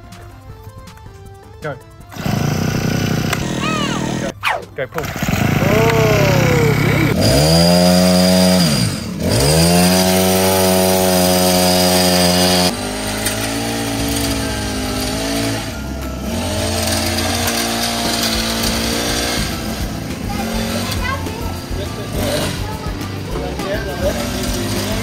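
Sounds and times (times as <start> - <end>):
small engine revving: 2.0 - 25.0.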